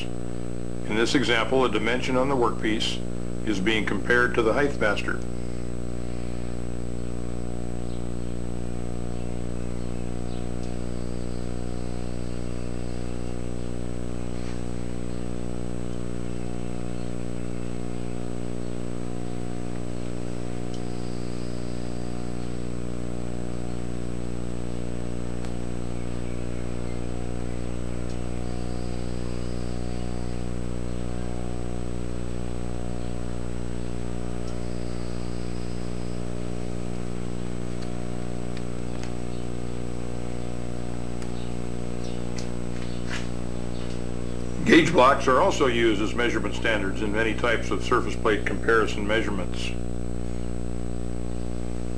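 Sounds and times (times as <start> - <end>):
low buzzing hum: 0.0 - 51.9.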